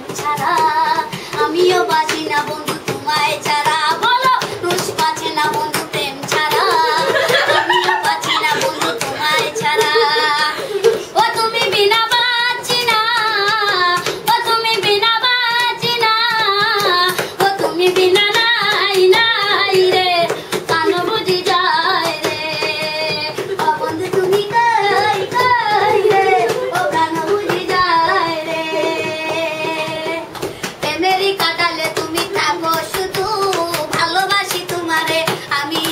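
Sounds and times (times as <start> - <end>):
boy singing: 0.0 - 35.9
sharp taps keeping time: 0.0 - 35.9.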